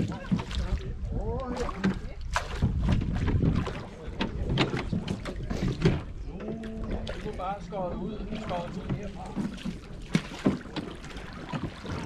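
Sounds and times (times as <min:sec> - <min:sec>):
oars knocking and splashing: 0:00.0 - 0:12.0
wind rumbling on microphone: 0:00.0 - 0:12.0.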